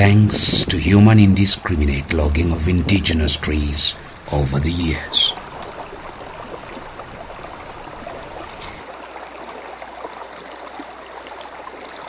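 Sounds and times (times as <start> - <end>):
water trickling over stones: 0.0 - 12.0
small splashes: 2.1 - 12.0.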